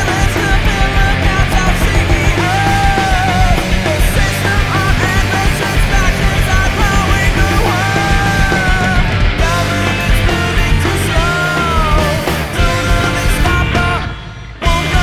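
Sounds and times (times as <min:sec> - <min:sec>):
post-punk rock song: 0:00.0 - 0:15.0.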